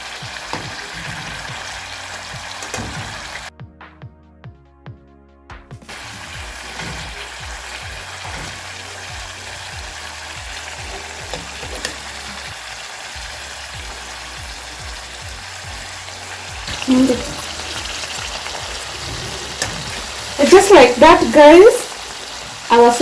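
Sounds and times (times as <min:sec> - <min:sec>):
sausages sizzling in a pan: 0:00.0 - 0:03.5, 0:05.9 - 0:23.0.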